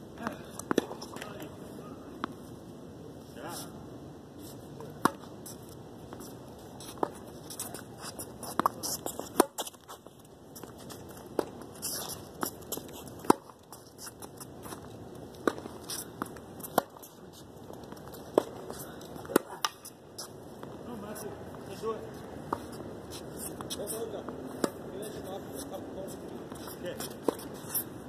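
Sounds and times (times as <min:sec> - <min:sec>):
racquets striking tennis ball: 0:00.2 - 0:01.6, 0:04.9 - 0:10.0, 0:10.6 - 0:20.8, 0:21.8 - 0:27.9.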